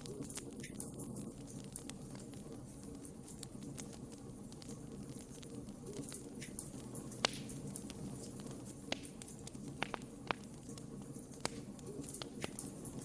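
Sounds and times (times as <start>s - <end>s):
low sound of flames: 0.0s - 13.0s
wood fire crackling and popping: 0.0s - 13.0s.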